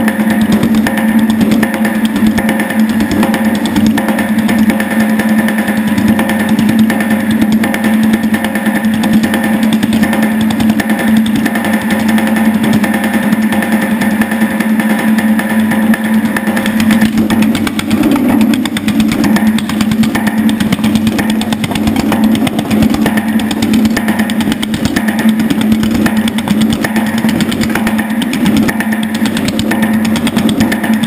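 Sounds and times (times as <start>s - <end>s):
machine hum: 0.0s - 31.0s
power hammer pounding metal: 0.0s - 31.0s.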